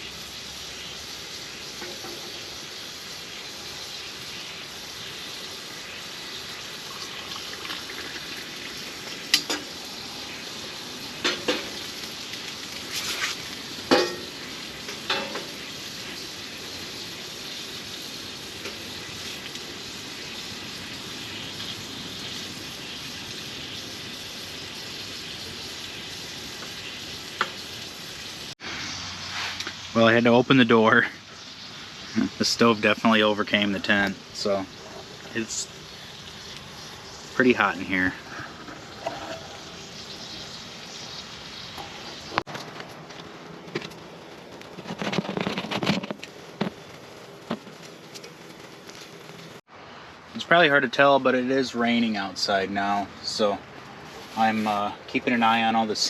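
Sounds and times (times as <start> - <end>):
sausage sizzling in a pan: 0.0 - 42.5, 52.8 - 56.0.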